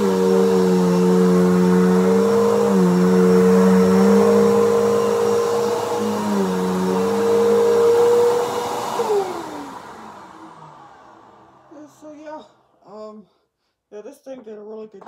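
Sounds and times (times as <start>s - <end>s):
vacuum cleaner running on carpet: 0.0s - 12.1s
vacuum winding down whine: 0.0s - 12.1s.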